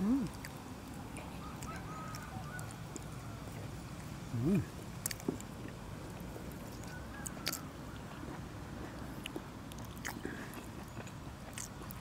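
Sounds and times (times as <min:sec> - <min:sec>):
people chewing and lip smacking: 0:00.0 - 0:12.0.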